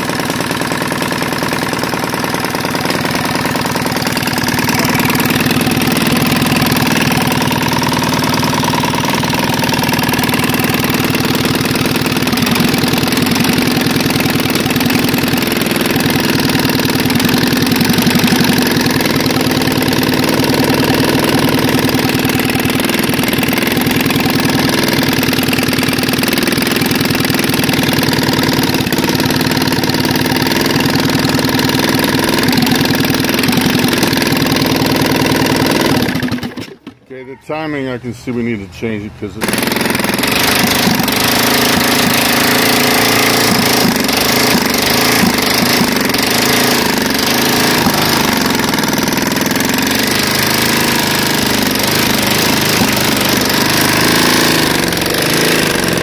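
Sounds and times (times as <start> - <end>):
engine running with fast firing beat: 0.0 - 37.0, 39.3 - 56.0.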